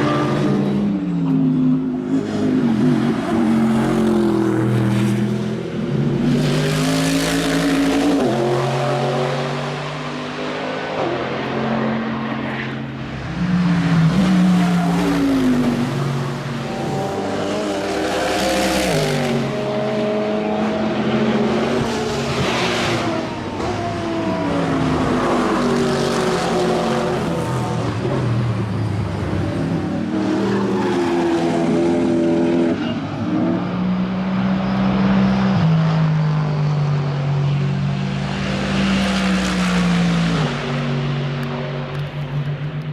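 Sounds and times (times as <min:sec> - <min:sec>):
race car engine at speed: 0:00.0 - 0:42.9.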